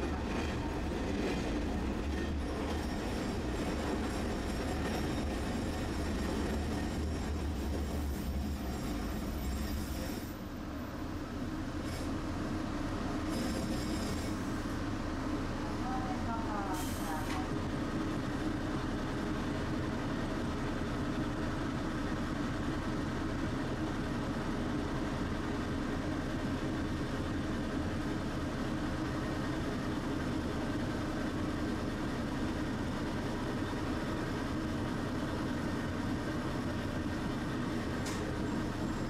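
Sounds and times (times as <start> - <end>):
streetcar hum and rumble: 0.0 - 39.0.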